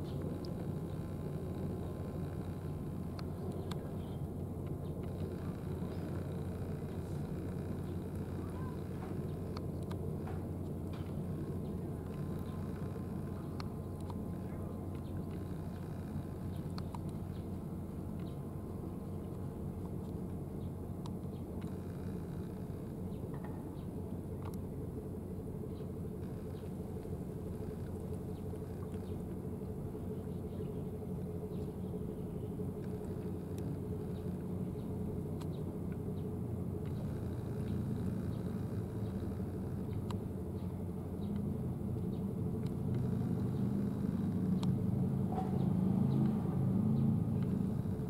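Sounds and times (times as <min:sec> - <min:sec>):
faint ticks: 0:00.0 - 0:24.7, 0:25.7 - 0:30.6, 0:32.7 - 0:48.0
low engine rumble: 0:00.0 - 0:48.0.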